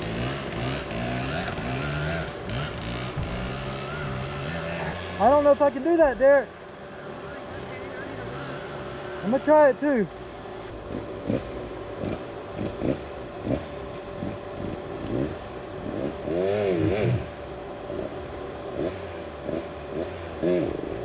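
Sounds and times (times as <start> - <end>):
dirt bike engine revving: 0.0 - 9.9, 10.6 - 21.0.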